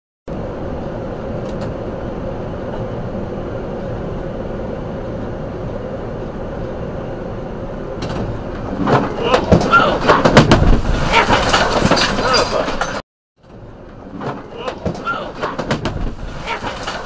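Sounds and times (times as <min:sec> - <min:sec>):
vehicle road and engine noise: 0:00.3 - 0:17.0.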